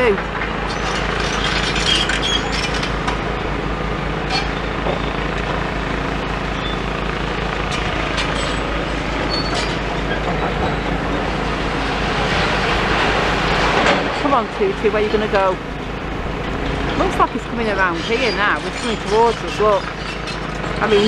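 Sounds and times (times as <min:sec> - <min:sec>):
excavator diesel engines running: 0:00.0 - 0:21.0.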